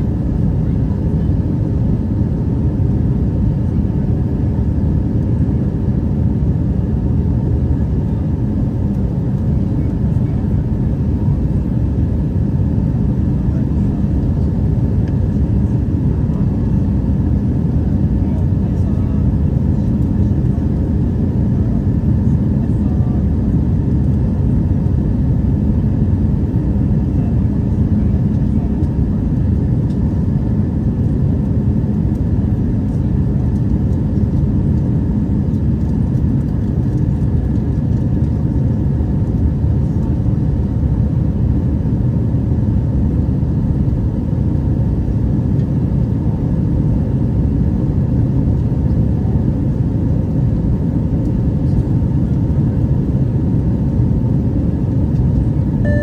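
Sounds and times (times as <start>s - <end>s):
airplane cabin engine noise: 0.0s - 56.0s.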